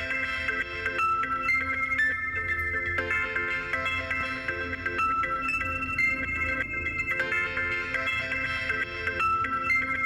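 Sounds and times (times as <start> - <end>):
phone ringtone melody: 0.0 - 10.0.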